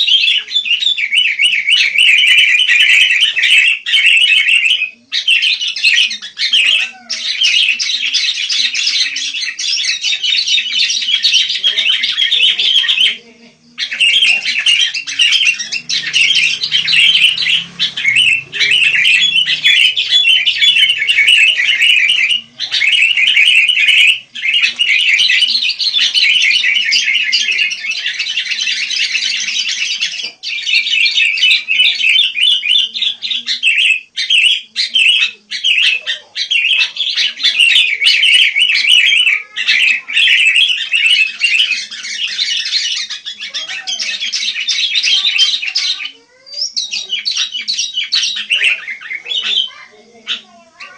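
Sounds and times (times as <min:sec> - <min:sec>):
birds chattering and squawking: 0:00.0 - 0:50.9.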